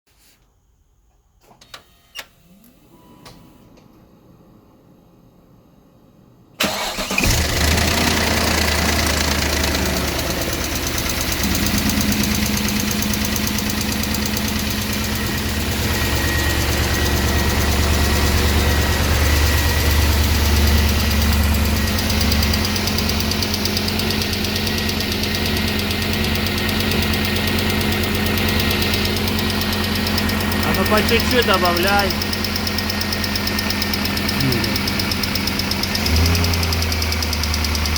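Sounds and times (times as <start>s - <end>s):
car engine starting and idling: 6.6s - 37.9s.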